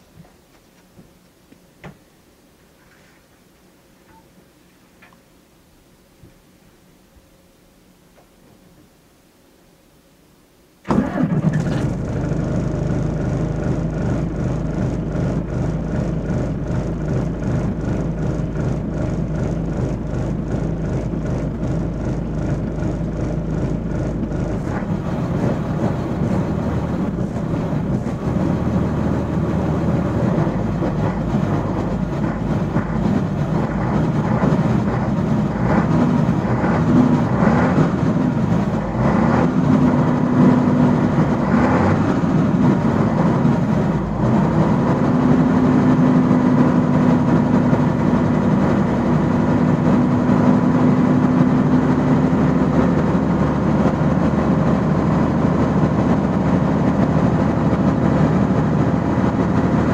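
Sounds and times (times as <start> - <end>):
coach diesel engine running: 10.9 - 59.9.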